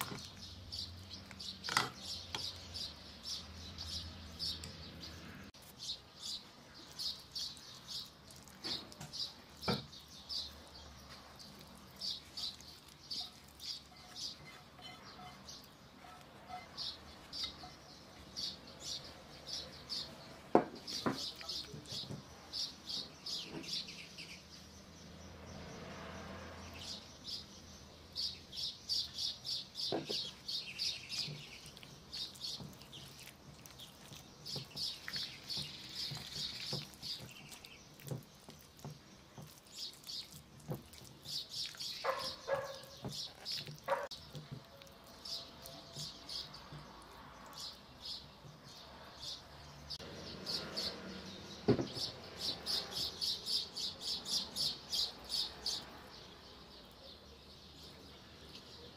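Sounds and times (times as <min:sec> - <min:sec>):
small bird chirping: 0:00.0 - 0:25.8, 0:26.6 - 0:58.9.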